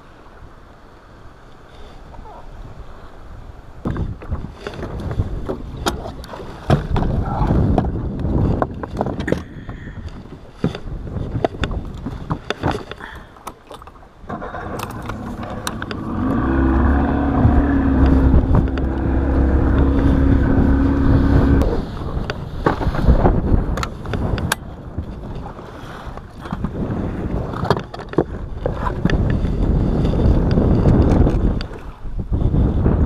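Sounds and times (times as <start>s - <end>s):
wind buffeting microphone: 2.0s - 33.0s
boat engine running: 3.9s - 32.7s.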